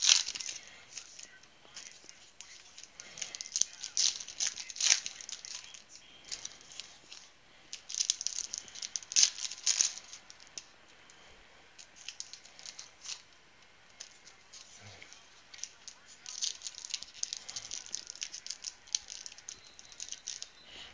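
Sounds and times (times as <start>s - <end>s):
card sleeves rustling: 0.0s - 20.6s.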